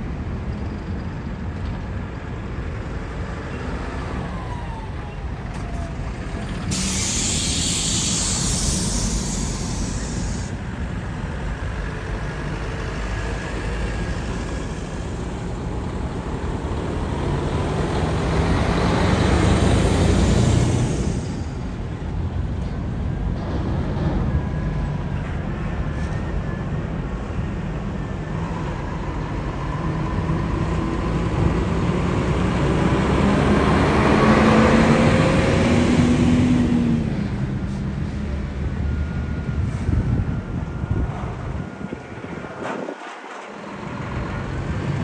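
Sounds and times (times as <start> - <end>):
heavy truck diesel engines: 0.0 - 45.0.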